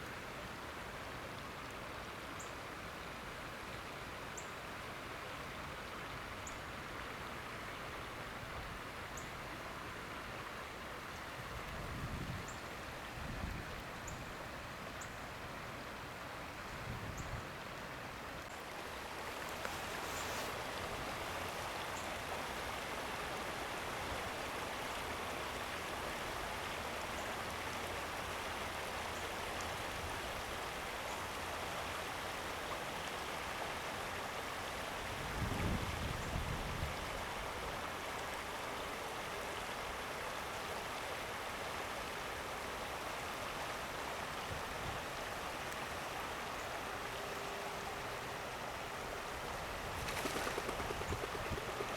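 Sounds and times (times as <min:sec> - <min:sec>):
stream flowing: 0:00.0 - 0:51.9.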